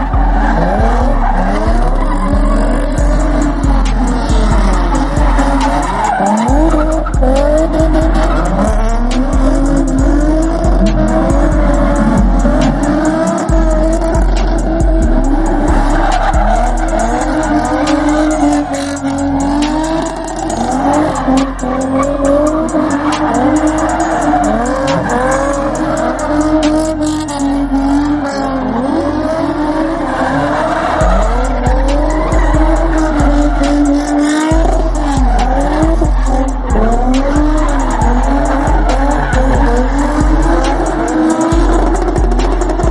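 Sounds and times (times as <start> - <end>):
car engine at high revs: 0.0 - 42.9
heavy music bass line: 0.0 - 42.9
tyres squealing: 0.0 - 42.9.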